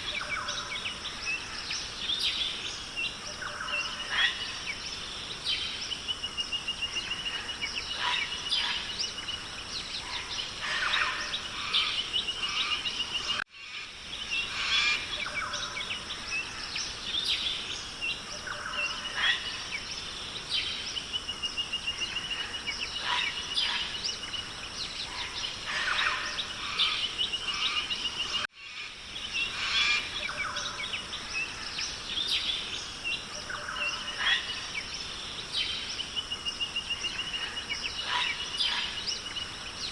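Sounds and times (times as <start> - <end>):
bird calls: 0.0 - 39.9
steady high hiss: 0.0 - 39.9.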